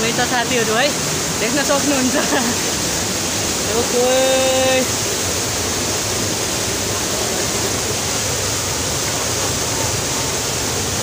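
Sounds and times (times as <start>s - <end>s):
waterfall crashing: 0.0s - 11.0s.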